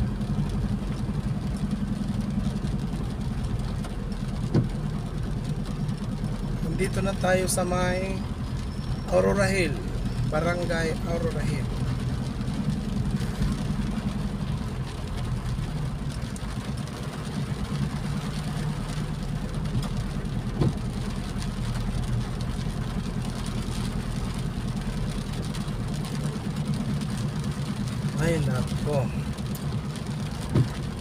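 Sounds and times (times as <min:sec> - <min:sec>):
car engine running: 0:00.0 - 0:31.0
tyres on wet road: 0:00.0 - 0:31.0.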